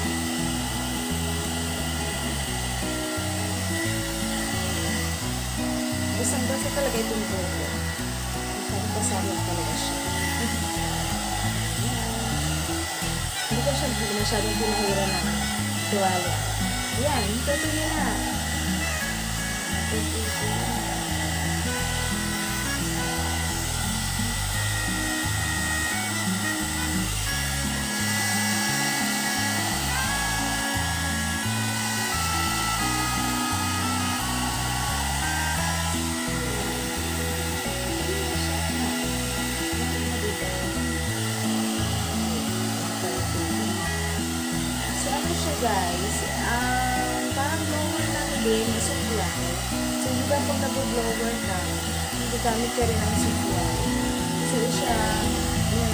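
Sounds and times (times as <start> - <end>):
hot air brush blowing: 0.0 - 55.9
upbeat background music: 0.0 - 55.9.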